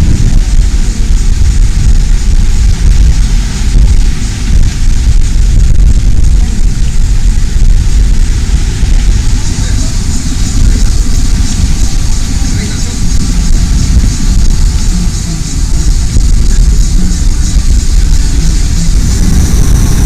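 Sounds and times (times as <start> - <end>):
motorboat engine rumbling: 0.0 - 20.0.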